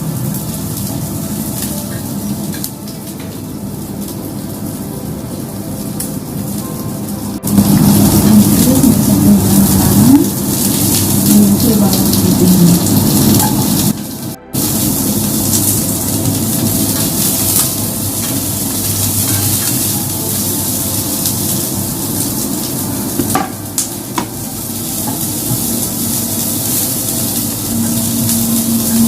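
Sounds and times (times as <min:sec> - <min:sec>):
shallots sizzling in oil: 0:00.0 - 0:29.0.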